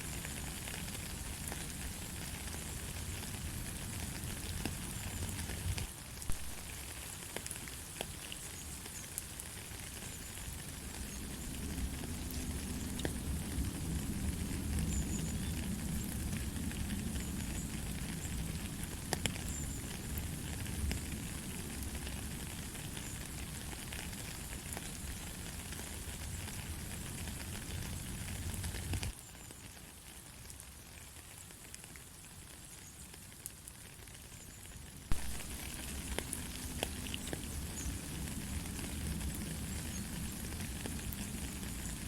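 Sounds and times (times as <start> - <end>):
light rain: 0.0 - 42.0.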